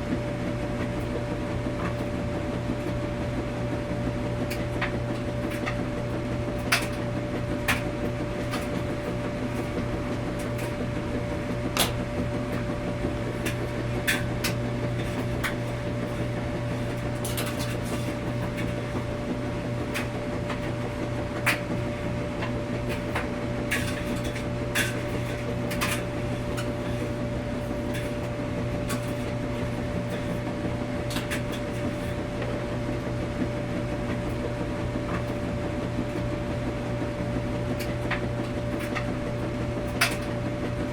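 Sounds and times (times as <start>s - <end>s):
washing machine hum: 0.0s - 40.9s.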